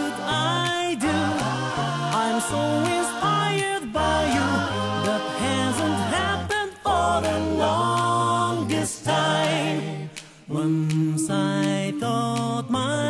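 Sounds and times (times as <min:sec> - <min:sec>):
unaccompanied singing voices: 0:00.0 - 0:13.0.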